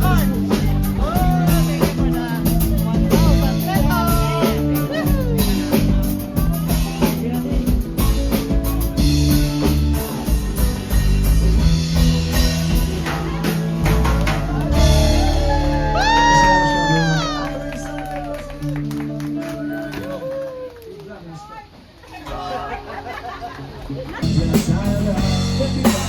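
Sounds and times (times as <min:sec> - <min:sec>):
music with drums and guitar: 0:00.0 - 0:20.3, 0:23.2 - 0:26.0.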